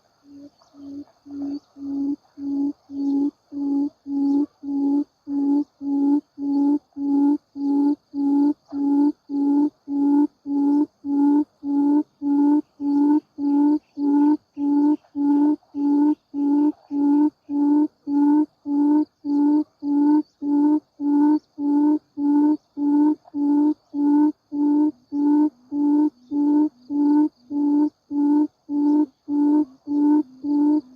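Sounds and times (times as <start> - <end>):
bird calling low hoots: 0.0 - 30.9
faint high insect whine: 0.0 - 30.9.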